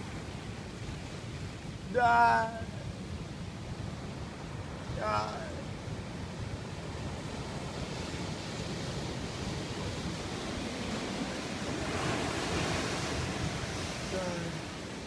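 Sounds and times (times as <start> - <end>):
surf washing onto rocky beach: 0.0 - 15.0
wind rumbling on microphone: 0.0 - 15.0.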